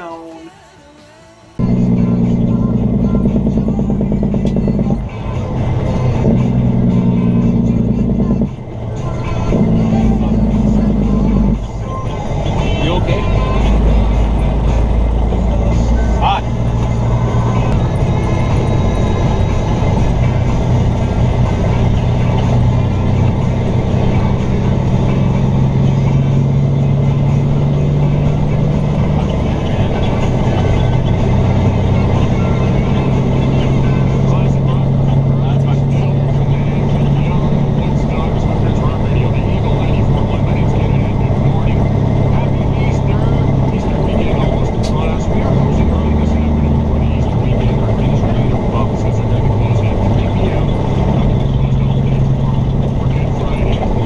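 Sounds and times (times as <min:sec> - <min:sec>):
music playing: 0:00.0 - 0:54.0
road noise: 0:00.0 - 0:54.0
truck diesel engine under load: 0:00.0 - 0:54.0.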